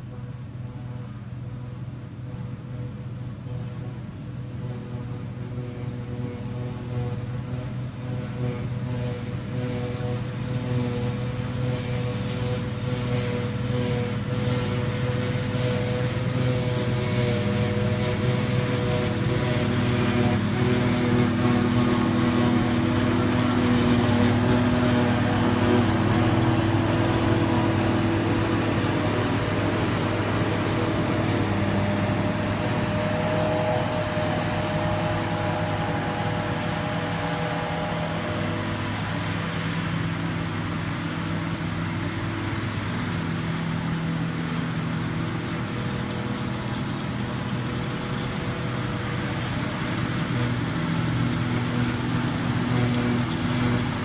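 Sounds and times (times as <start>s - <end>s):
forage harvester running: 0.0s - 54.0s.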